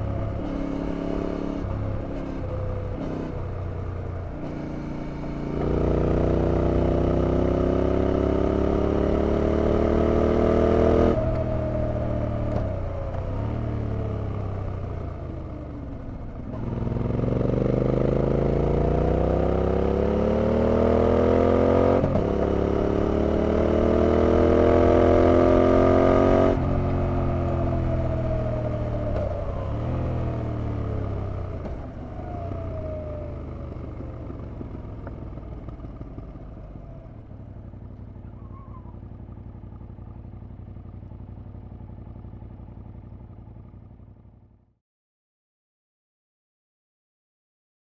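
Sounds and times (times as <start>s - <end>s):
motorcycle engine revving: 0.0s - 44.3s.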